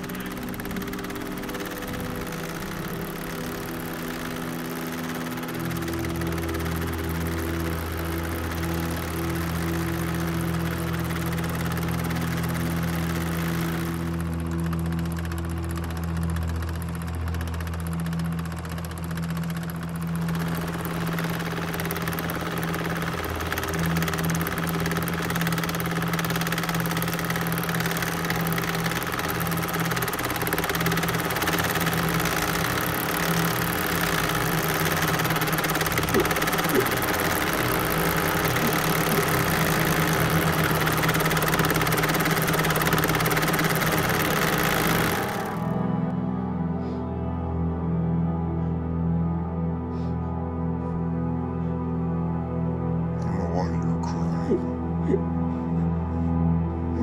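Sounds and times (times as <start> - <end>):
engine-like droning hum: 0.0 - 57.0.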